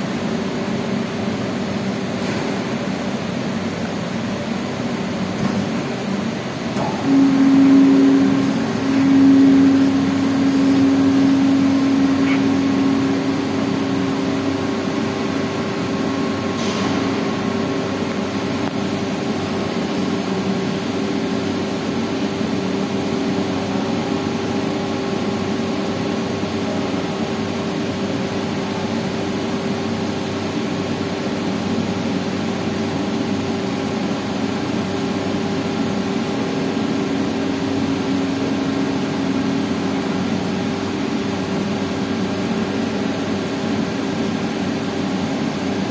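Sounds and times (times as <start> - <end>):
hydraulic power unit humming: 0.0 - 45.9.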